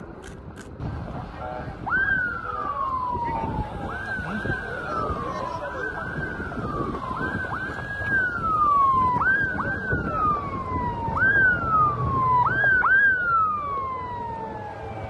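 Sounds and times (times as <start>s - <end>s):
emergency vehicle siren wailing: 0.8s - 15.0s.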